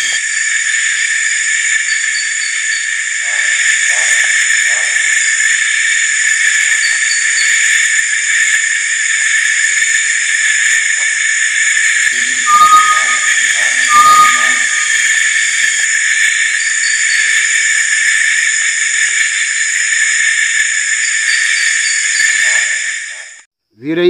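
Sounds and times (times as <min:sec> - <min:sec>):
night insects droning: 0:00.0 - 0:23.5.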